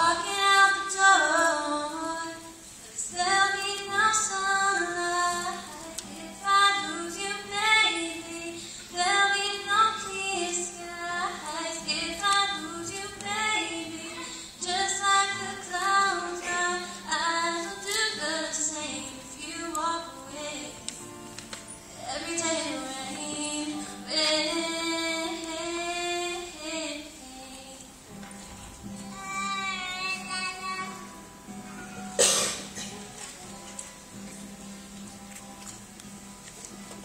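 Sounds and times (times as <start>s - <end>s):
girl singing pop ballad: 0.0s - 21.2s, 21.8s - 31.4s
acoustic guitar: 0.0s - 37.0s.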